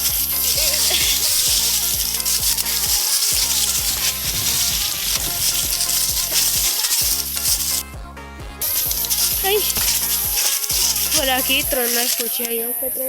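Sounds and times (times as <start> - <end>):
loud steady hiss: 0.0 - 7.8, 8.6 - 13.0
background music with steady beat: 0.0 - 13.0.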